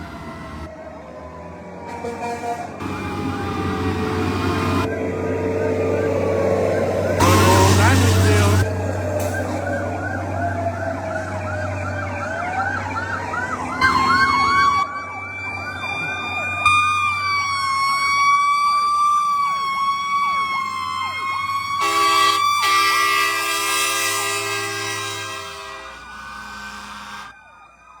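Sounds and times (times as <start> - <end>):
fire truck horn: 0.0 - 0.7, 1.8 - 6.2, 6.9 - 27.6
electronic siren yelp: 0.0 - 0.8, 2.8 - 28.0
wailing siren: 0.0 - 28.0.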